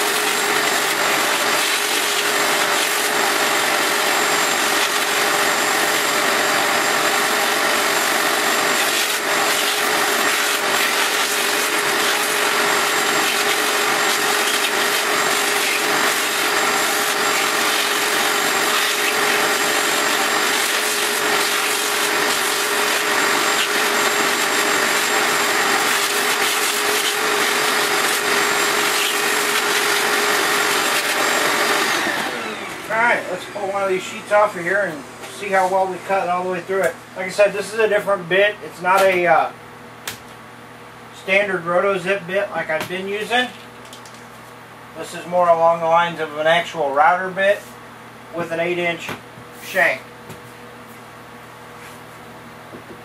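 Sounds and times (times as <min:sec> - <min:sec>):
shop vacuum running: 0:00.0 - 0:53.0.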